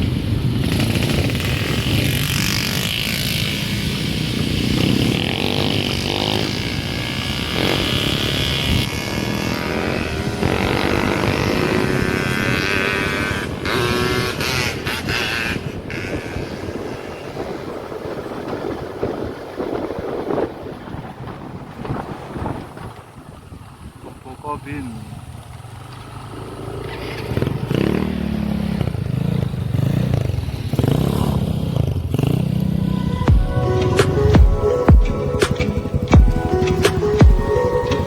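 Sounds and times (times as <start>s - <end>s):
motorcycle engine running: 0.0s - 21.5s, 23.0s - 38.0s
road noise: 0.0s - 38.0s.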